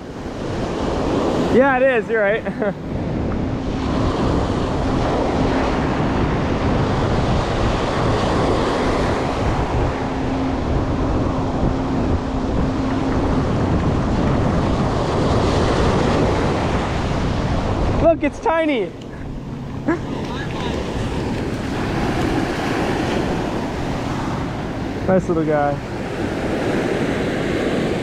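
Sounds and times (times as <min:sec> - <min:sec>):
ocean surf breaking: 0:00.0 - 0:28.0
wind rumbling on microphone: 0:00.0 - 0:28.0.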